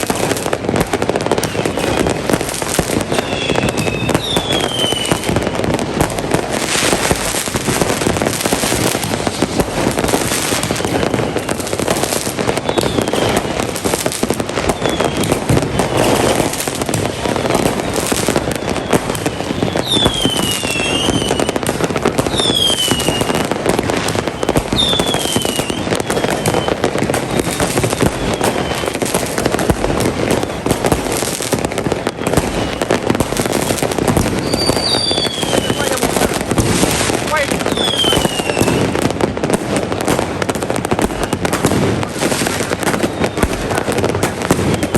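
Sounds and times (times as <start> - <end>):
firework whistles falling in pitch: 0.0 - 40.1, 40.9 - 44.9
fireworks banging: 0.0 - 44.9.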